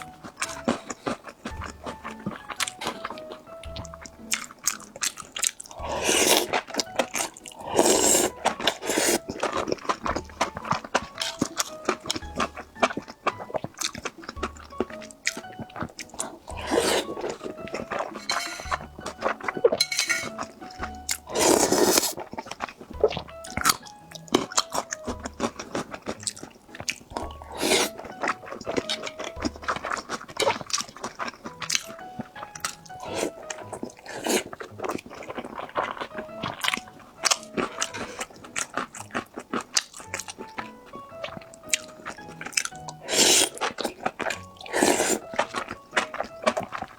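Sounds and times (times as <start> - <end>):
background music with soft beat: 0.0 - 46.9
crunchy chewing and biting: 0.0 - 46.9.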